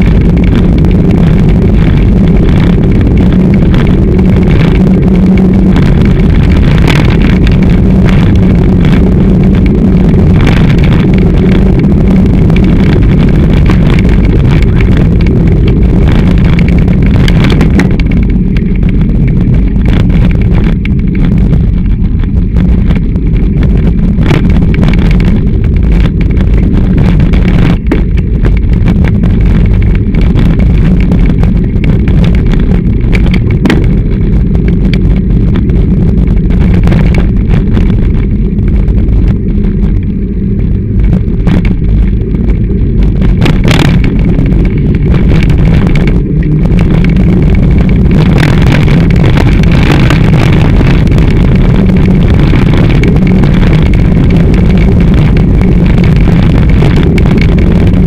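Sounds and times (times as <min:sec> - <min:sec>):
camera rumbling and rattling: 0:00.0 - 0:58.0.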